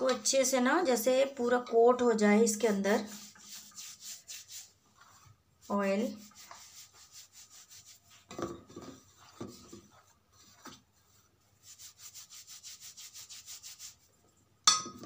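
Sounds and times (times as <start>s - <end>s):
hands rubbing flour in a bowl: 0.1s - 14.5s.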